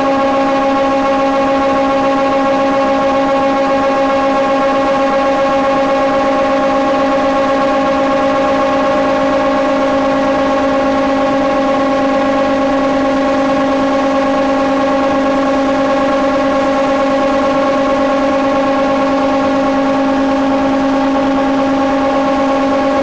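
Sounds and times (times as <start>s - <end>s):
timber moulder machine humming: 0.0s - 23.0s.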